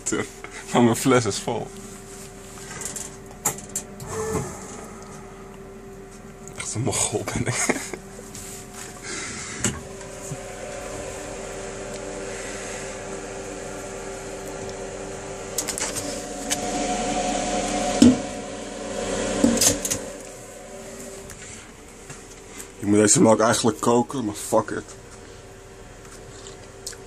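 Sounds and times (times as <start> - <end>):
vending machine humming: 0.0 - 27.0.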